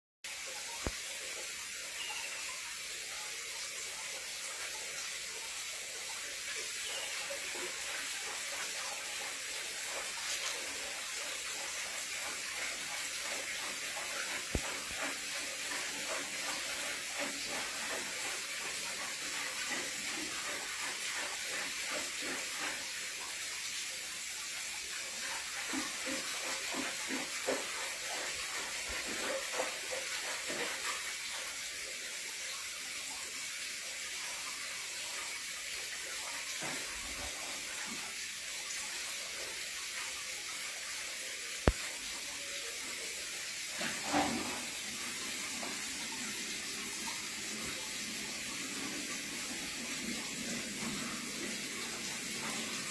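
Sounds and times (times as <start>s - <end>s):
hiss of moving water: 0.3s - 52.9s.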